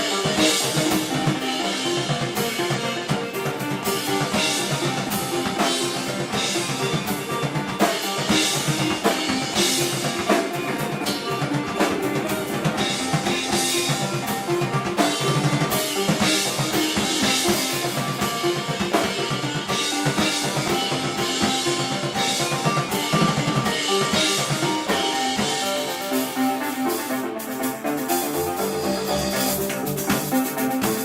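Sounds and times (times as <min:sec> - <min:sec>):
live band playing loudly: 0:00.0 - 0:31.0.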